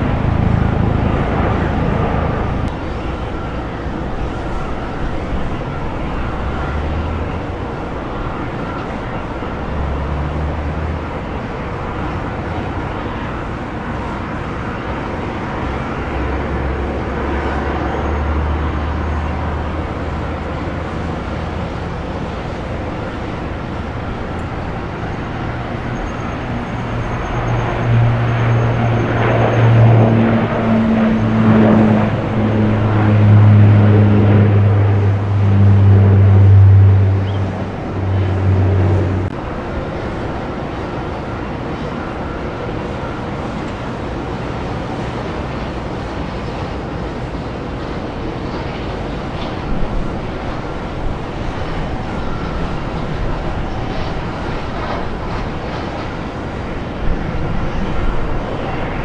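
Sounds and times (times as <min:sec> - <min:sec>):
airport noise: 0:00.0 - 0:59.0
turboprop aircraft taking off: 0:00.0 - 0:59.0.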